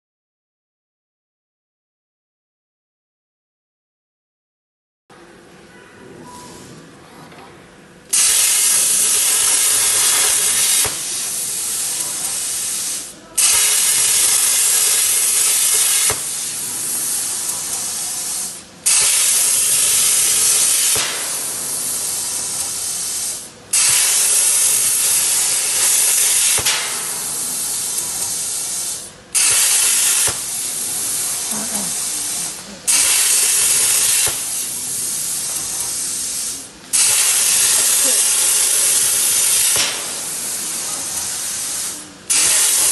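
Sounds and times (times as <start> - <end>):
plasma arc hissing: 8.1 - 42.9.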